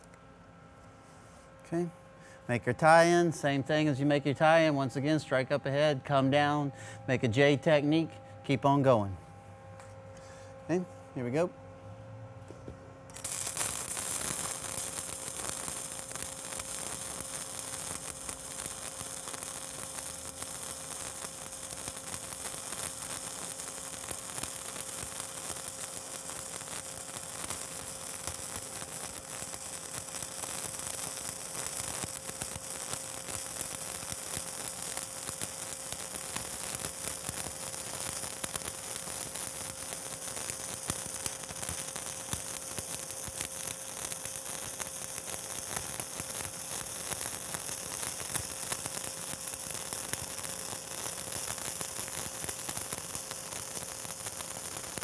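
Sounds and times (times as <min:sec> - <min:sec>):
constant hum: 0:00.0 - 0:52.0
welding arc crackling hiss: 0:01.7 - 0:08.1, 0:13.1 - 0:55.0.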